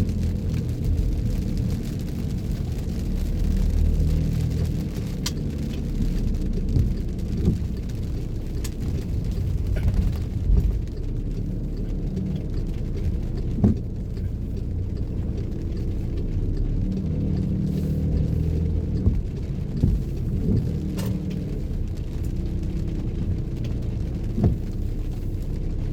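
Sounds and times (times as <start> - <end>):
car road rumble: 0.0 - 25.9.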